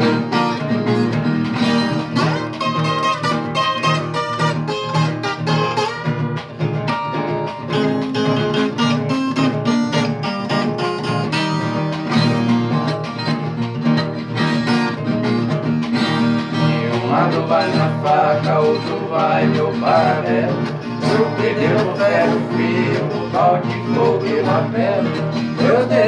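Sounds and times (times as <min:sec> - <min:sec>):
guitar picked and strummed: 0:00.0 - 0:26.0.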